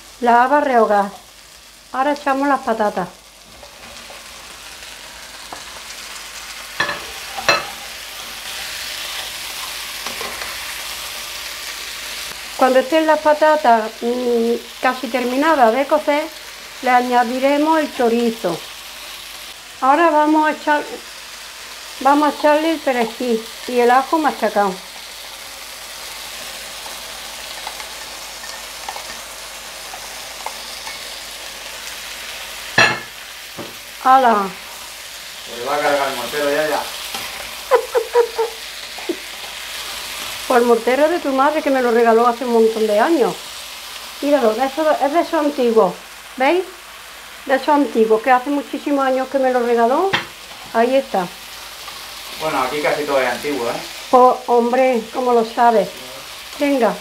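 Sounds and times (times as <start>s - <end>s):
oil sizzling in a frying pan: 0.0s - 57.0s.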